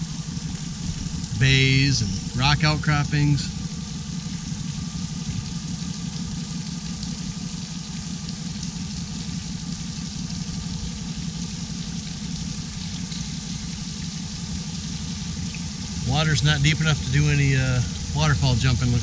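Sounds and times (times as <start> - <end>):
boat engine humming: 0.0 - 19.0
rushing water: 0.0 - 19.0.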